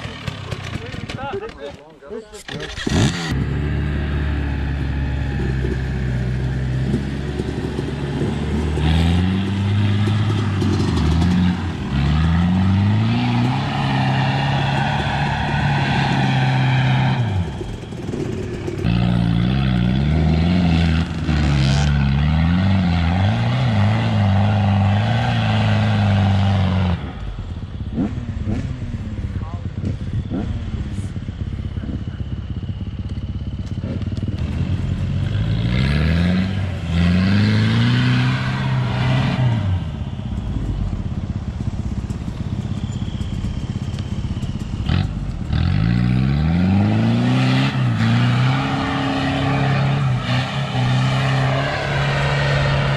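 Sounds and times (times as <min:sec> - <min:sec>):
off-road vehicle engine under load: 0:00.0 - 0:52.9.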